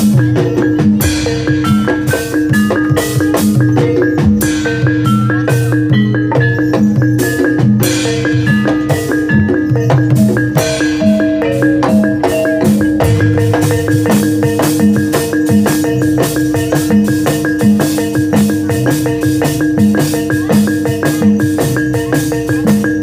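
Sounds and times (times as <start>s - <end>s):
hand drum strokes: 0.0s - 23.0s
metallophones ringing: 0.0s - 23.0s.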